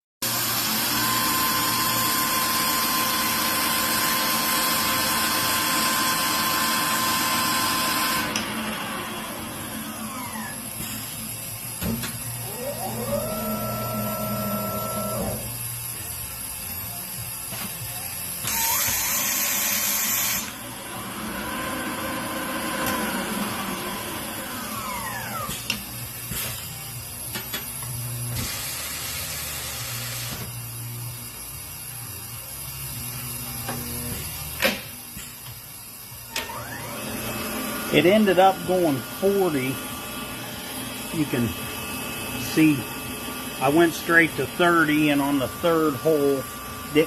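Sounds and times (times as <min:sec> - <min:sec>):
motor spinning up and down: 0:00.2 - 0:35.2, 0:36.2 - 0:47.0
power tool hiss with whine: 0:00.2 - 0:47.0.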